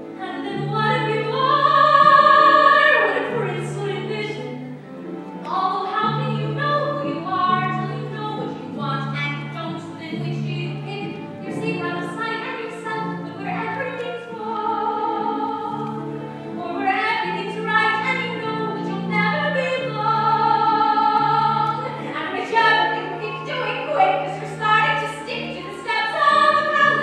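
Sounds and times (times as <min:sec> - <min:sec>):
instrumental accompaniment: 0:00.0 - 0:27.0
woman singing: 0:00.2 - 0:04.6, 0:05.5 - 0:27.0.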